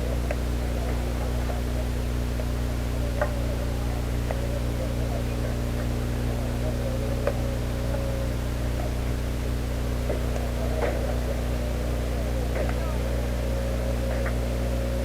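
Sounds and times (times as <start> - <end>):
faint wavering tones: 0.0 - 15.0
low hum: 0.0 - 15.0.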